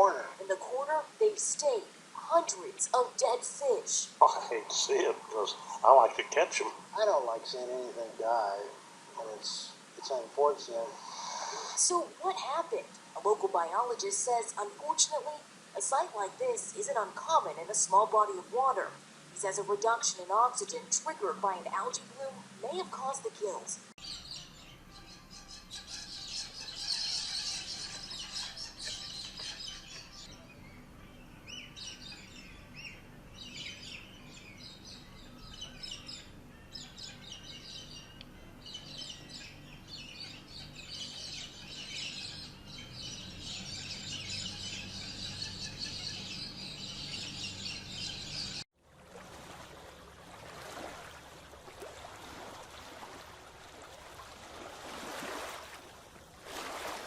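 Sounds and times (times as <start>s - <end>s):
birds chirping chorus: 0.0s - 48.6s.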